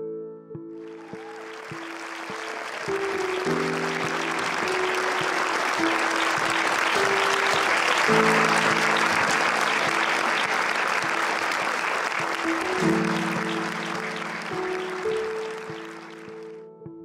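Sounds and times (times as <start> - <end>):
background instrumental music: 0.0 - 17.0
audience applauding: 0.8 - 16.6.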